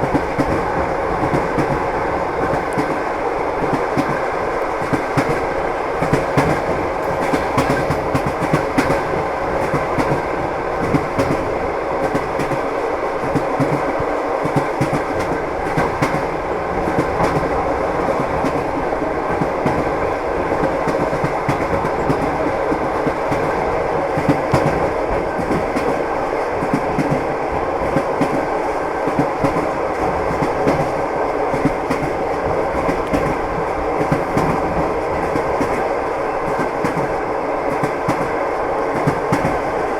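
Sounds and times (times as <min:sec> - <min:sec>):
train rumble and rush: 0:00.0 - 0:39.9
train wheels clattering on rails: 0:00.0 - 0:39.9.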